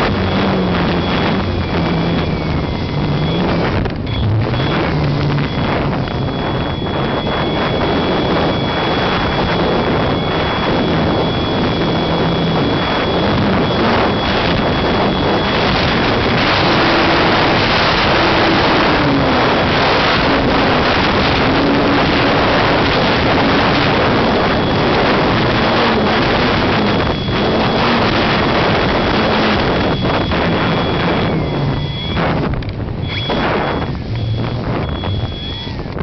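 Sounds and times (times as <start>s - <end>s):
faint wavering hum: 0.0s - 36.0s
thin high whine: 0.0s - 36.0s
wind rush over microphone: 0.0s - 36.0s.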